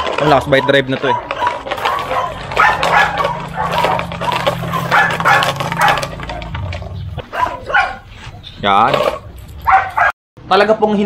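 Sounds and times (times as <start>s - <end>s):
dog growling: 0.0s - 8.1s, 8.8s - 10.1s.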